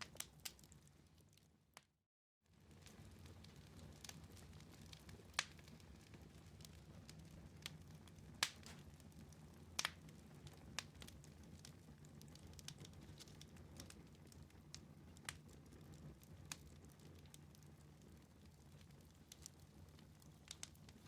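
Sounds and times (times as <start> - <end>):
wood fire crackling: 0.0 - 1.9, 2.5 - 21.0.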